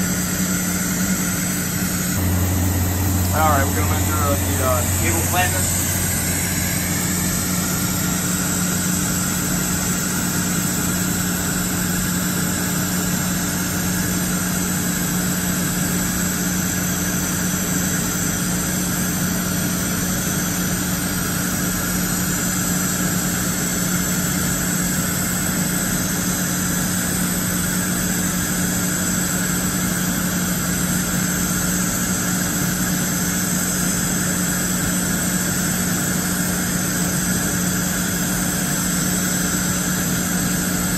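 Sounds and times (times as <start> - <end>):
machine low hum and drone: 0.0 - 22.5, 29.3 - 40.9.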